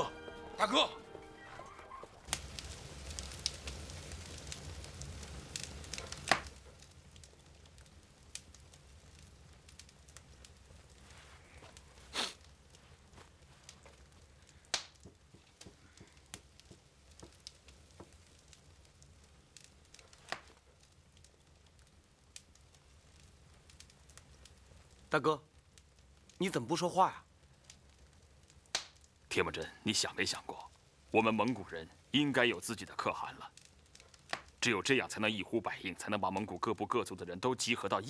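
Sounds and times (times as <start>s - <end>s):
sharp crackles and clicks: 0.0s - 37.9s.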